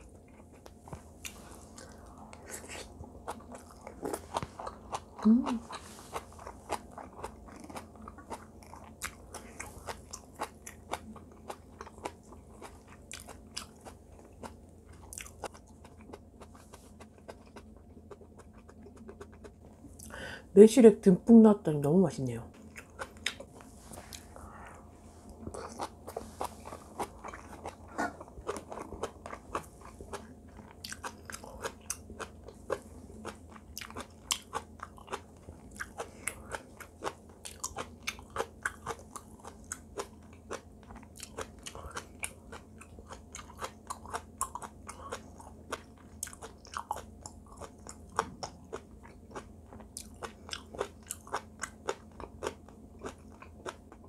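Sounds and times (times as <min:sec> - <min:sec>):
moist crunchy chewing: 0:00.0 - 0:20.2, 0:22.6 - 0:54.0.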